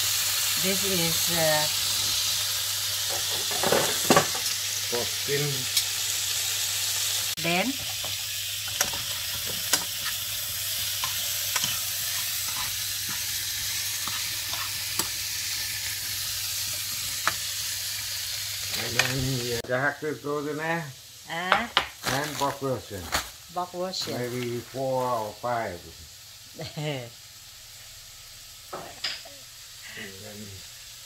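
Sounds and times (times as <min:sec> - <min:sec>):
meat sizzling in pan: 0:00.0 - 0:31.0.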